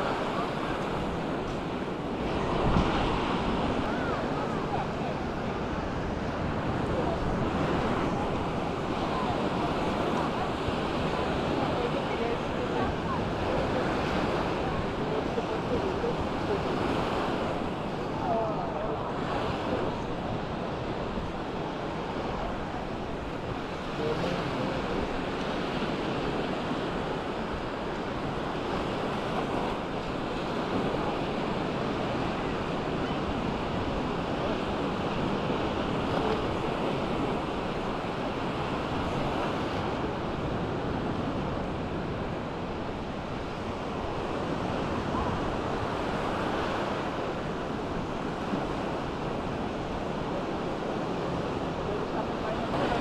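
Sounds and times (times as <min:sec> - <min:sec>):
waves washing up shore: 0:00.0 - 0:53.0
wind on microphone: 0:00.0 - 0:53.0.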